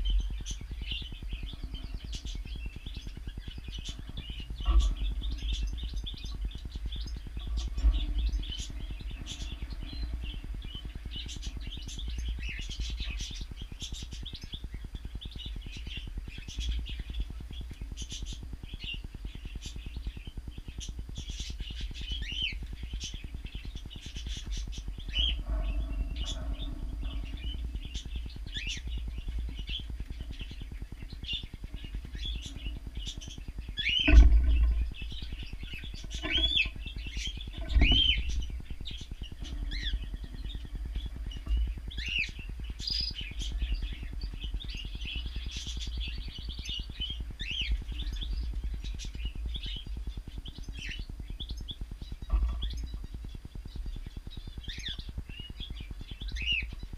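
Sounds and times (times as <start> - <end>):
cockatiels chirping: 0.1 - 53.2.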